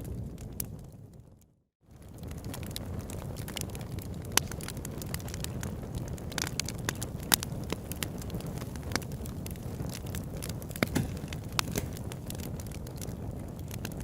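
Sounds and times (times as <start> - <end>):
flames rumbling: 0.0 - 14.0
wood popping and snapping: 2.4 - 14.0.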